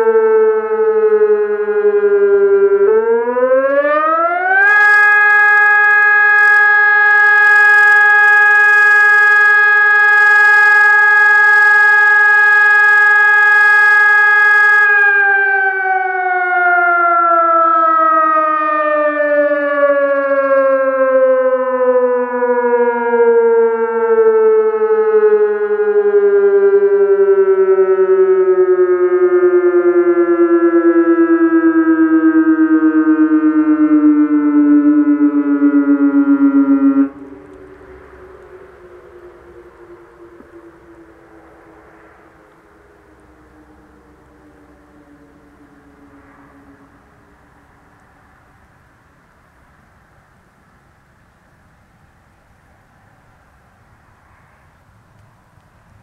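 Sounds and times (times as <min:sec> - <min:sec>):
electronic siren wailing: 0:00.0 - 0:48.7.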